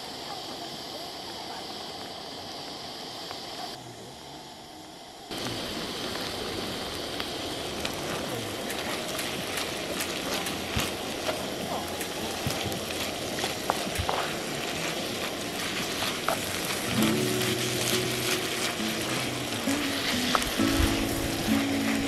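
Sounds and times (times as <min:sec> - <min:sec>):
food sizzling in a wok: 0:00.0 - 0:22.0.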